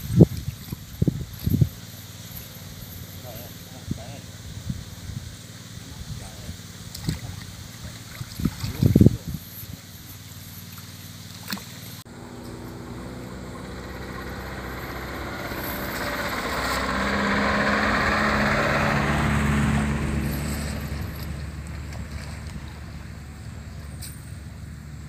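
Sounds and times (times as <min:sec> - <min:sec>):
engine passing by: 0:01.4 - 0:25.0.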